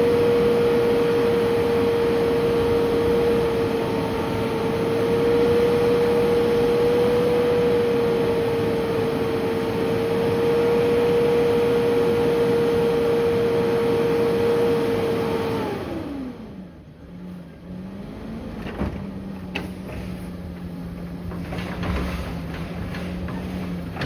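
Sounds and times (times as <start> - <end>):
garbage truck engine revving and idling: 0.0 - 24.0.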